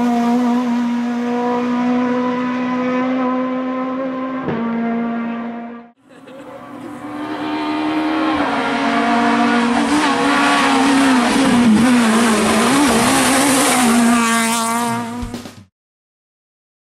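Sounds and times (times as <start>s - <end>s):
rally car engine at high revs passing: 0.0s - 15.6s.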